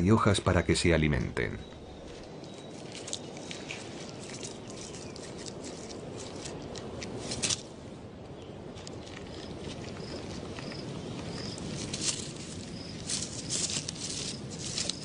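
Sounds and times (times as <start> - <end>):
steady background hiss: 0.0 - 15.0
rustling in dry leaves: 1.8 - 15.0.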